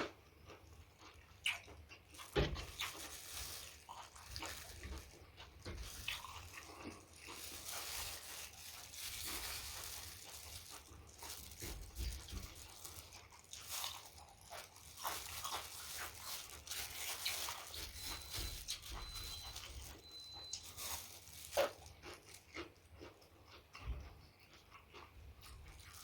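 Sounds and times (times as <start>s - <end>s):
person chewing and crunching food: 0.0s - 26.0s.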